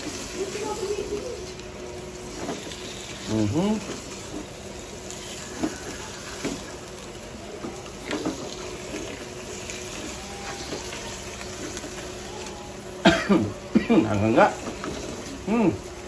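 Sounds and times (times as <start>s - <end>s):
meat bubbling and hissing in wok: 0.0s - 16.0s.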